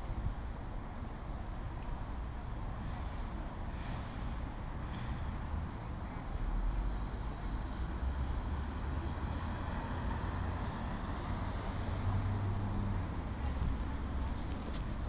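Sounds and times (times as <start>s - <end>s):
distant city traffic rumble: 0.0s - 15.0s.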